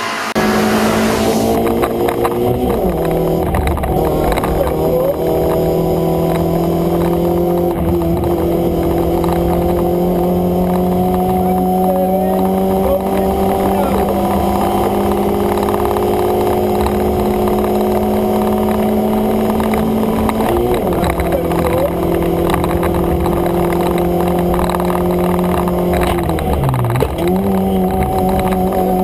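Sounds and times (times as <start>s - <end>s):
car engine revving high: 0.0s - 29.0s.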